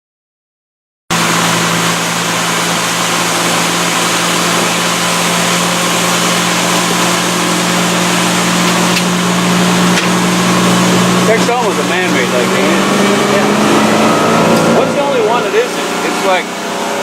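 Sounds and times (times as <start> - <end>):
boat motor humming: 1.1 - 17.0
wind and water hiss: 1.1 - 17.0.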